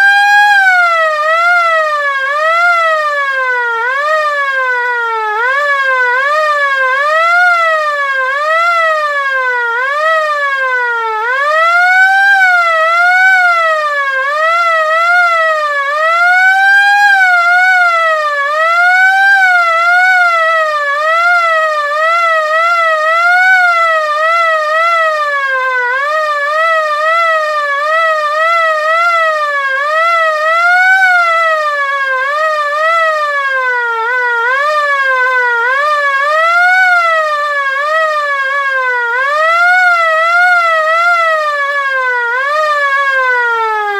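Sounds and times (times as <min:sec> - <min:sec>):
air raid siren rising and falling: 0:00.0 - 0:43.9.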